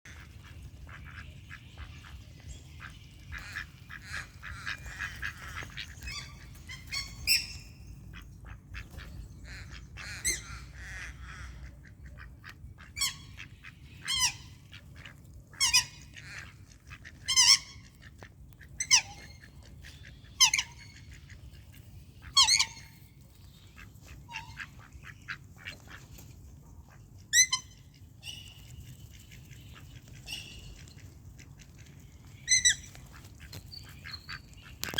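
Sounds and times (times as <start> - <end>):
wild ducks calling: 0.1 - 34.9.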